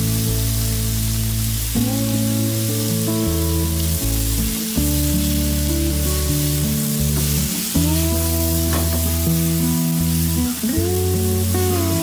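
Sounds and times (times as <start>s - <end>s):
meat and vegetables sizzling in pan: 0.0s - 12.0s.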